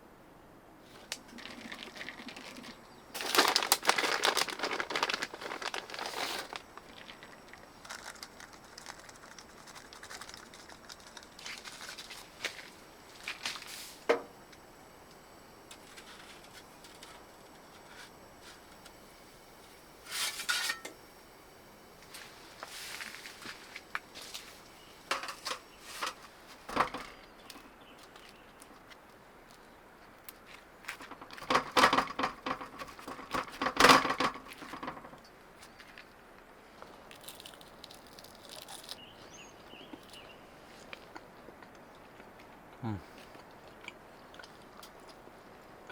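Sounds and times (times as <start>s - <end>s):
crinkling handling noises: 0.8s - 19.0s, 22.0s - 45.3s.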